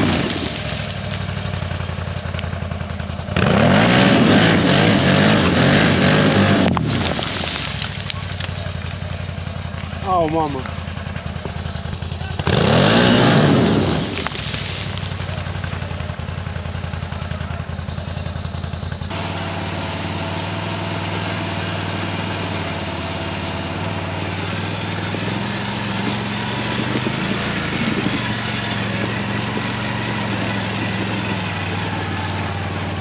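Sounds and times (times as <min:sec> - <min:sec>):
quad engine running: 0:00.0 - 0:33.0.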